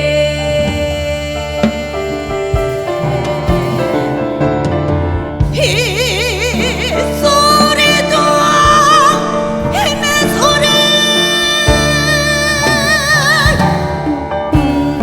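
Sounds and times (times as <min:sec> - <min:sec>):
held accompaniment: 0:00.0 - 0:15.0
low drum strokes: 0:00.0 - 0:15.0.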